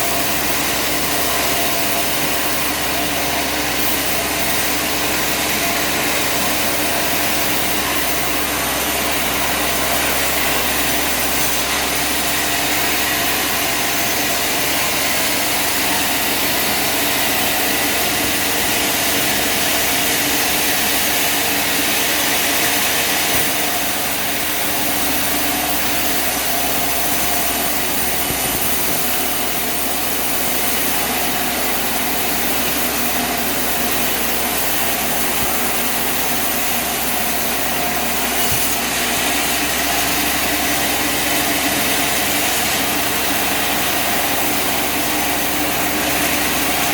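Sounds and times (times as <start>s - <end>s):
bandsaw sawmill running: 0.0s - 46.9s.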